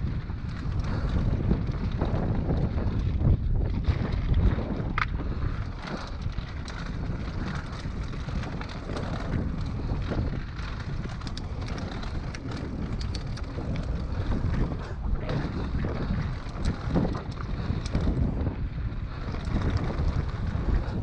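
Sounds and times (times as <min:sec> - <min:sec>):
bike clicks and rattles: 0:00.0 - 0:21.0
tyres rumbling over dirt and rock: 0:00.0 - 0:21.0
wind buffeting microphone: 0:00.0 - 0:21.0.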